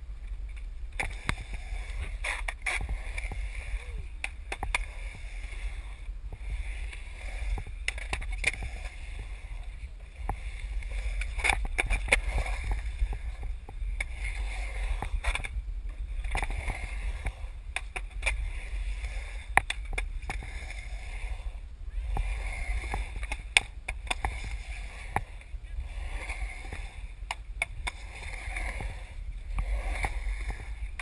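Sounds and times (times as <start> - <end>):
skateboard wheels rumbling on concrete: 0.0 - 31.0
skateboard clicks and knocks: 0.2 - 31.0.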